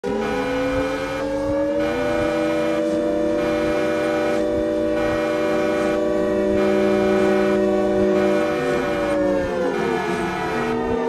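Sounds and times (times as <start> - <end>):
emergency alert alarm tones: 0.0 - 11.0.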